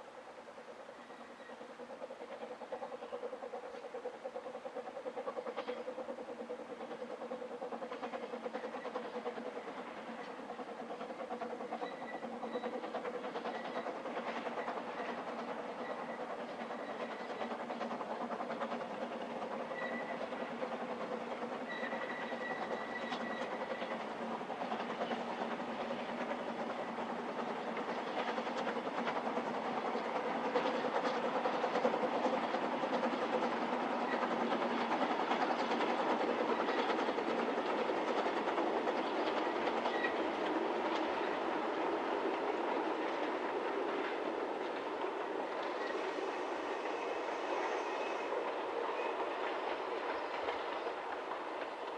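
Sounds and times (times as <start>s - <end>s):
steam train rumbling and clattering: 0.0s - 51.9s.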